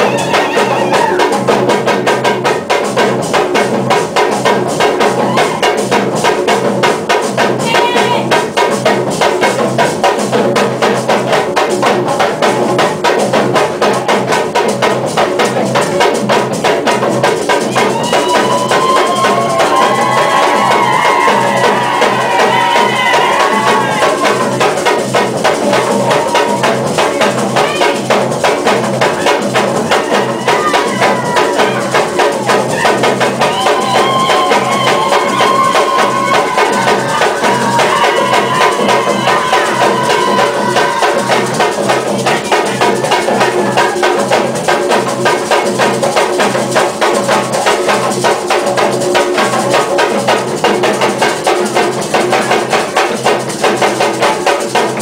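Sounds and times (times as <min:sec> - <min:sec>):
drum ensemble playing: 0:00.0 - 0:55.0.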